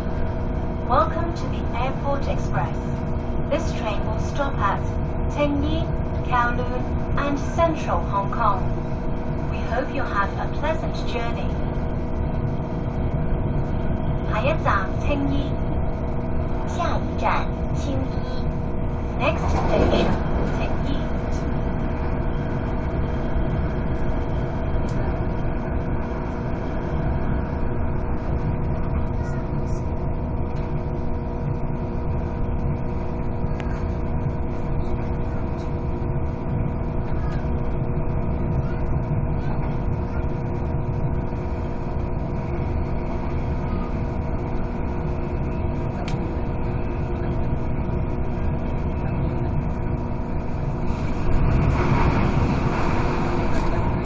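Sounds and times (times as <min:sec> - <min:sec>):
train interior rumble and hum: 0:00.0 - 0:54.0.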